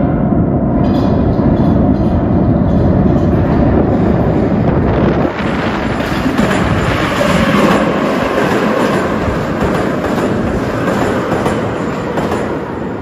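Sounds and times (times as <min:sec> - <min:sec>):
metro train wheels rushing on rails: 0:00.0 - 0:13.0.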